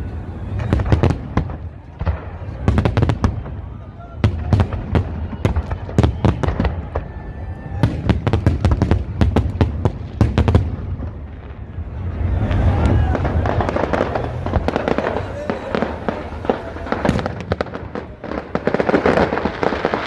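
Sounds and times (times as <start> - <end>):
fireworks bangs and crackles: 0.0 - 20.0
people's voices: 0.0 - 20.0.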